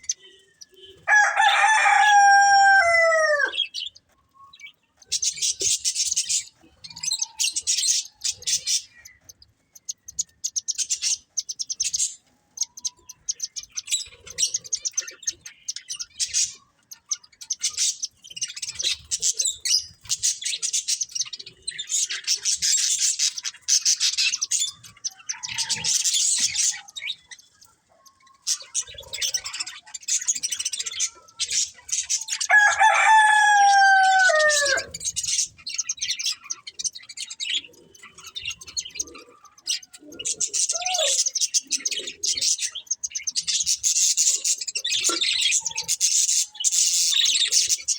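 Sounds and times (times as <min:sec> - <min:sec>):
budgerigars chattering: 0:04.6 - 0:47.9.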